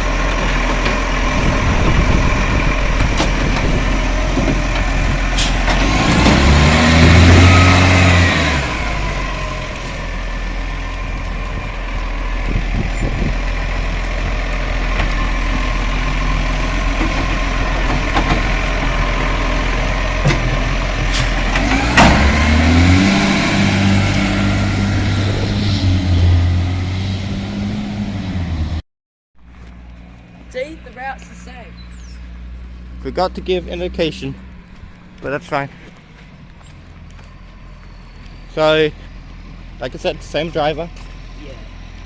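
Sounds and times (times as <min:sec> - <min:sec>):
garbage truck diesel engine: 0:00.0 - 0:28.8, 0:29.4 - 0:42.0.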